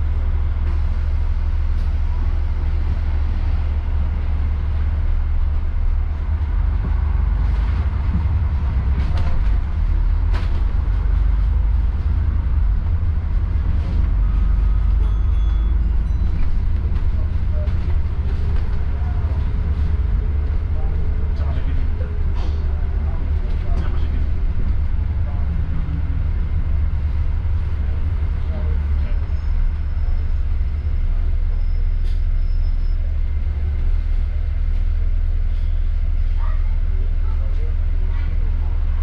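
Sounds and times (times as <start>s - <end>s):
bus diesel engine rumble: 0.0s - 39.0s.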